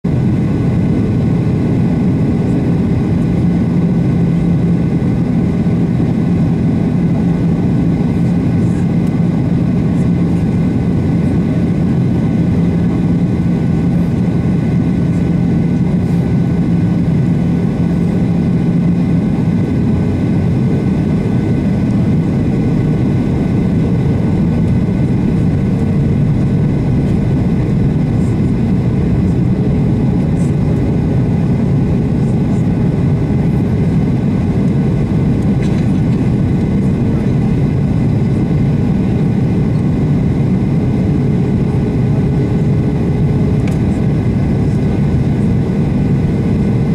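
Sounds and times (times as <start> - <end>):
jet engine roar in cabin: 0.0 - 46.9
low engine hum: 0.1 - 46.9.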